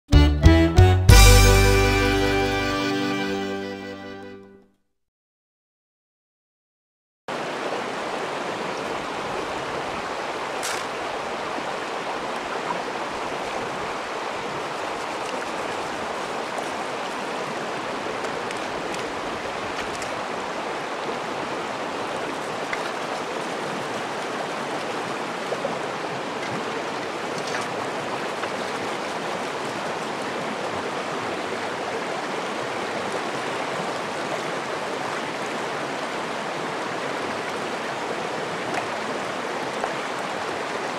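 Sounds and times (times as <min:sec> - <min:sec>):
rocky stream rushing: 0:07.3 - 0:40.9.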